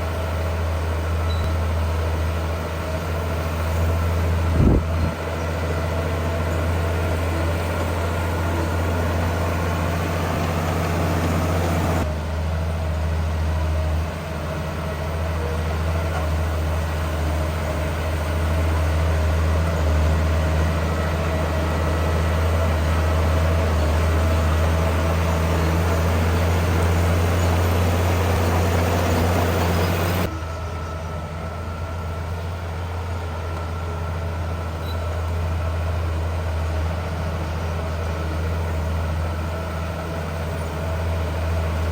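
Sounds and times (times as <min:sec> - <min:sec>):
heavy diesel machinery droning: 0:00.0 - 0:41.9.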